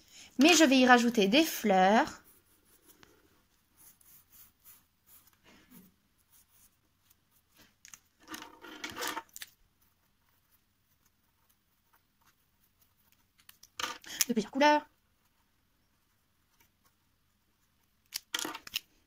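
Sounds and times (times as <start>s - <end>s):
markers scratching on paper: 0.4s - 7.6s, 9.6s - 18.0s.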